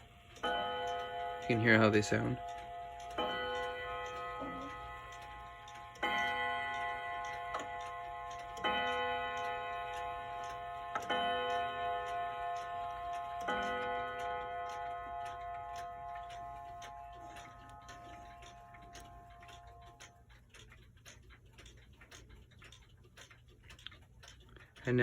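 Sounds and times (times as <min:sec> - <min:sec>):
clock striking: 0:00.0 - 0:25.0
clock ticking: 0:00.0 - 0:25.0.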